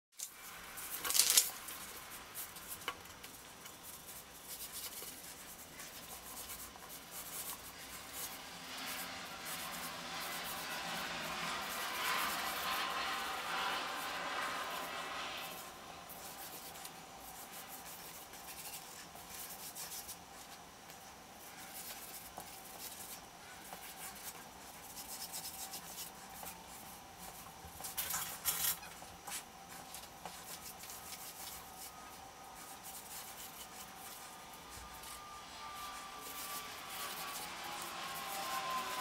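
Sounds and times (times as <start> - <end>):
marker drawing on paper: 1.6 - 39.0.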